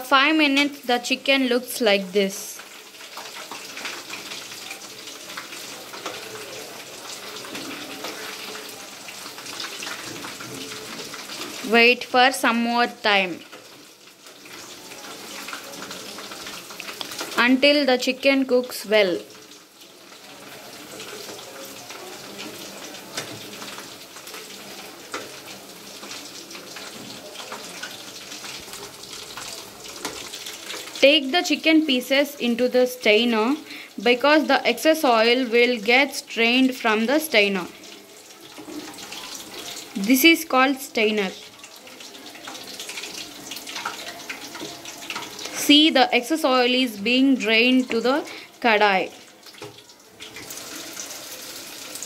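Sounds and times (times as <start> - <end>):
hot oil bubbling and sizzling: 0.0 - 52.0.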